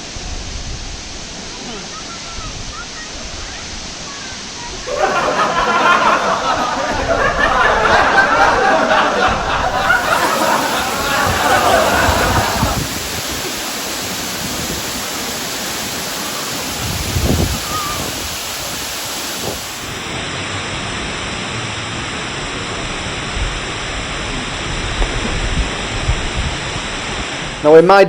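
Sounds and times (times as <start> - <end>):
waterfall rushing: 0.0 - 27.6.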